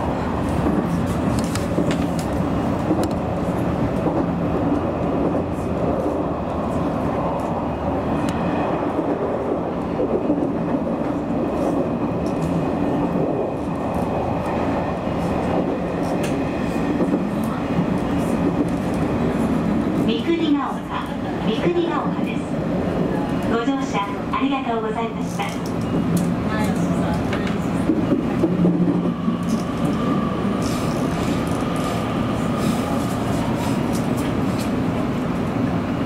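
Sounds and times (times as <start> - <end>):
train wheels and motors rumbling: 0.0 - 36.0.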